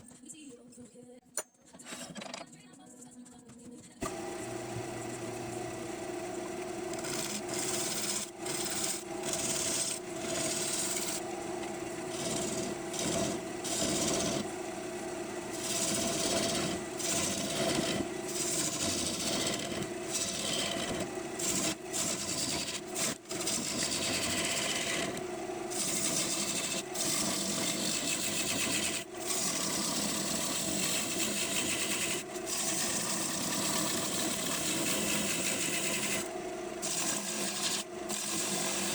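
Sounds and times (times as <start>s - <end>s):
lathe motor hum: 4.0s - 38.9s
turning tool cutting wood: 4.0s - 38.9s.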